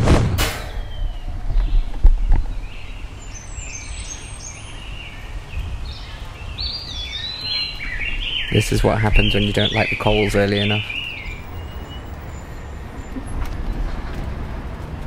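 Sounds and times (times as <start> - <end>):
birds chirping: 0.6 - 15.0.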